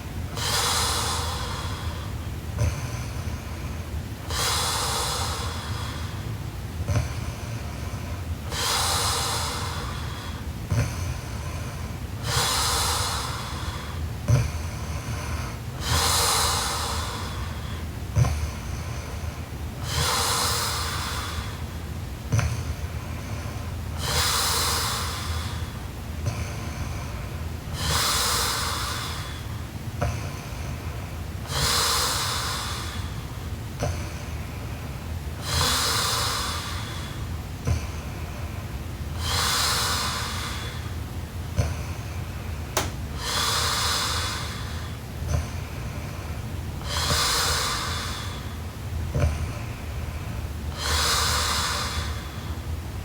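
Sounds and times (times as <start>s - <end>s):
girl breathing heavily and snoring: 0.3s - 21.7s, 22.3s - 52.7s.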